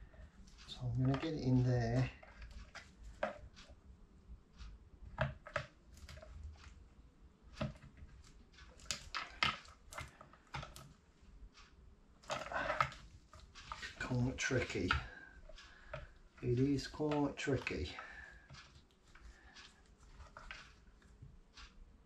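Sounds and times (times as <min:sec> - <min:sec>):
plastic tool scraping and clicking: 0:00.0 - 0:03.8, 0:04.6 - 0:11.0, 0:11.6 - 0:21.8.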